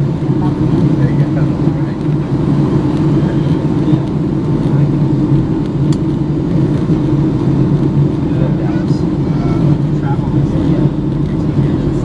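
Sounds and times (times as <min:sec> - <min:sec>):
airplane cabin engine roar: 0:00.0 - 0:12.0.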